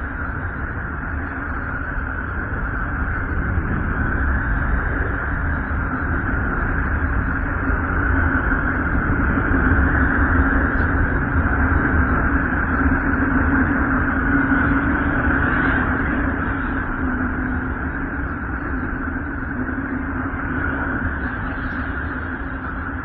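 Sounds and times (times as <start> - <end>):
droning hiss: 0.0 - 23.0
low hum: 0.0 - 23.0.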